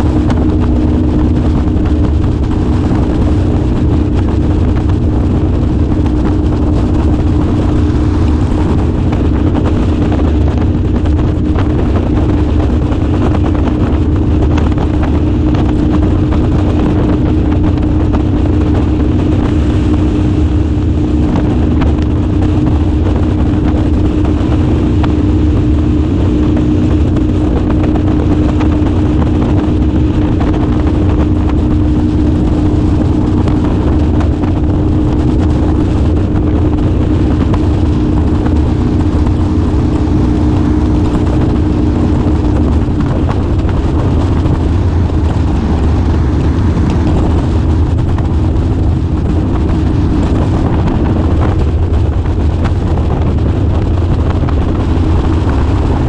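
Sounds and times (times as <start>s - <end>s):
boat motor droning: 0.0s - 56.0s.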